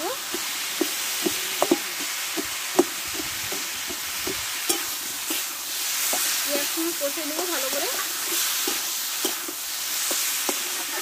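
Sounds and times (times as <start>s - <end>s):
food sizzling in a pan: 0.0s - 11.0s
metal spatula scraping pan: 0.3s - 11.0s.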